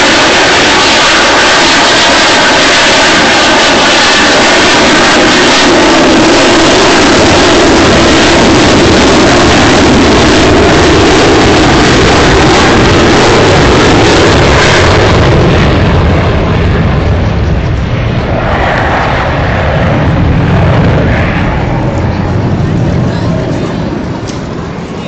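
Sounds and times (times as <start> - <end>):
jet fighter engine roar: 0.0 - 25.0.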